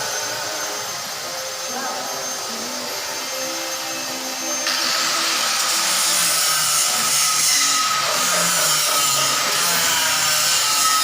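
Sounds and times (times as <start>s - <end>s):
harsh hissing noise: 0.0s - 11.0s
machinery running loudly: 0.0s - 11.0s.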